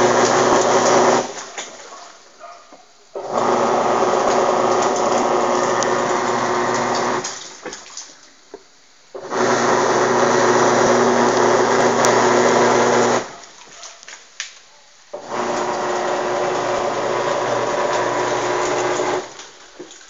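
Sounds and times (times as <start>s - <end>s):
washing machine motor humming: 0.0s - 7.9s, 9.2s - 13.6s, 15.1s - 20.0s.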